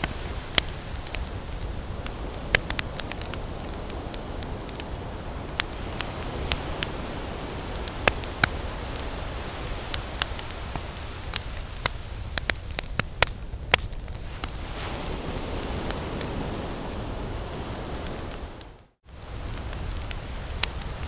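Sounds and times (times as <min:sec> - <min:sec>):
surf rushing: 0:00.0 - 0:11.9, 0:14.2 - 0:21.0
campfire crackling and popping: 0:00.0 - 0:21.0.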